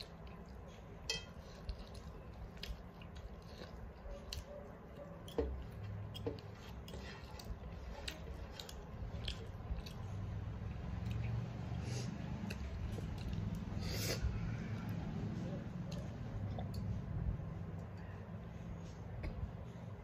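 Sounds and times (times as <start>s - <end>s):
person chewing: 0.0s - 19.7s.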